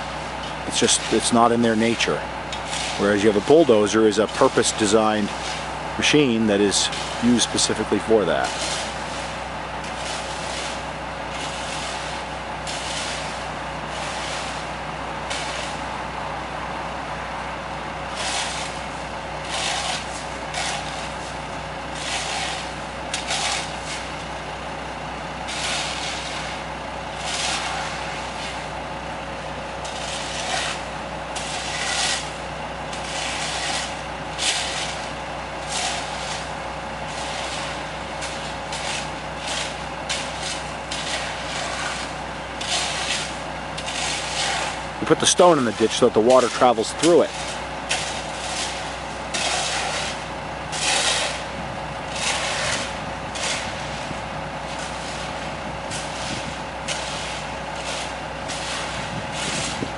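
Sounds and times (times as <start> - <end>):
diesel machinery engines running: 0.0 - 59.9.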